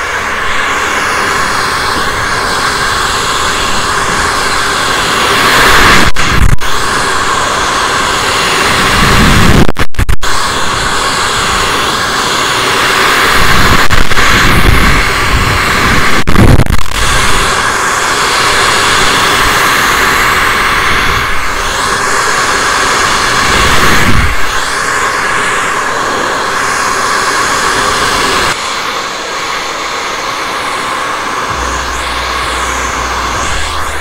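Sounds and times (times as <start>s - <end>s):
hair dryer blowing: 0.0s - 34.0s.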